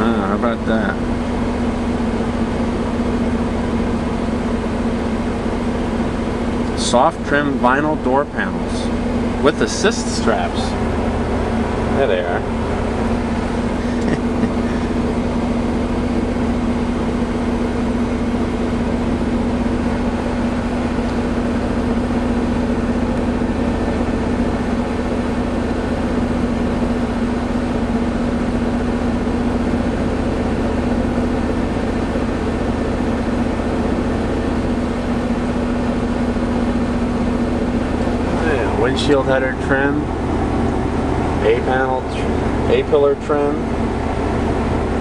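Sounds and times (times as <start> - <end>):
pickup engine idling: 0.0 - 45.0.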